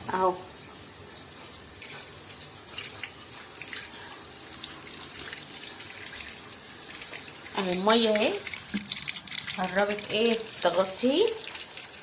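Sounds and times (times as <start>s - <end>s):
hose water splashing into tub: 0.0s - 12.0s.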